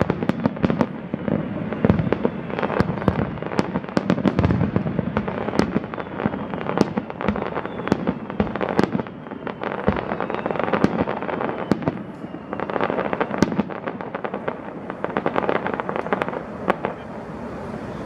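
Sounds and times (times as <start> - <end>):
firework bangs: 0.0 - 18.0
fireworks crackling: 0.0 - 18.0.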